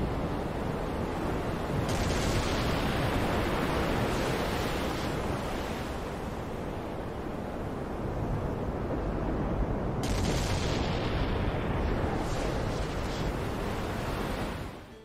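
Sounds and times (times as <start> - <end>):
stormy sea waves and wind: 0.0 - 15.0.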